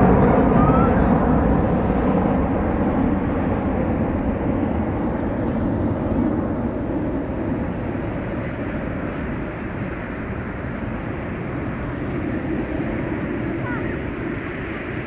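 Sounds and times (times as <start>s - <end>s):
jet engines deep rumble: 0.0s - 15.0s.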